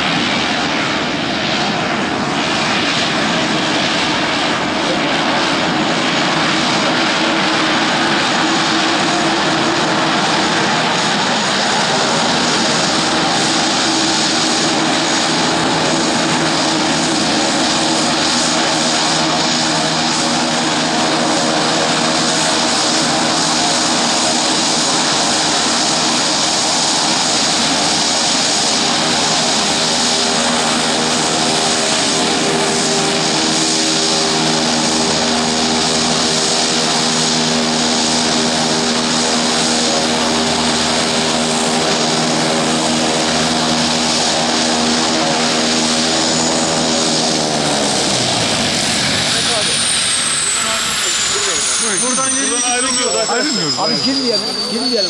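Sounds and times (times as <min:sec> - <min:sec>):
turboprop aircraft taxiing: 0:00.0 - 0:55.0.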